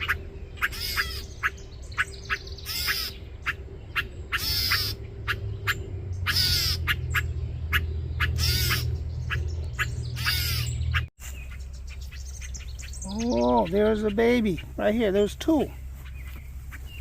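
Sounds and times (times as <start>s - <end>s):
low rumble: 0.0s - 13.9s
robin alarm squawking: 0.0s - 17.0s.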